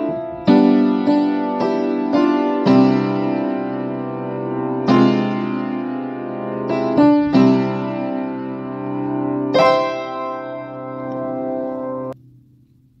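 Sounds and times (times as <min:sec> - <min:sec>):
piano chords: 0:00.0 - 0:12.2.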